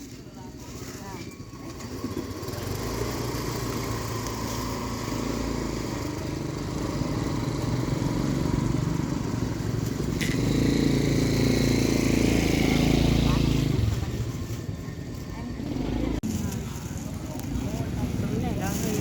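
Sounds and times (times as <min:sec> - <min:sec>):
motorcycle engine running: 0:00.7 - 0:18.3.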